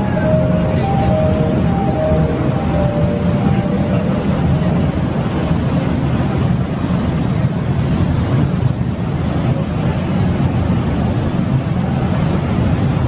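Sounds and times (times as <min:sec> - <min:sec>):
ferry engines rumbling: 0:00.0 - 0:13.0
rushing wake wash: 0:00.0 - 0:13.0.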